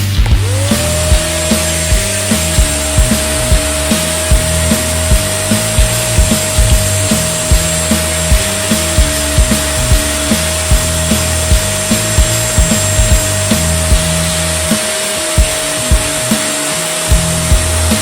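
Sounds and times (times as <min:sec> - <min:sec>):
background music with bass line: 0:00.0 - 0:18.0
steady hiss: 0:00.0 - 0:18.0.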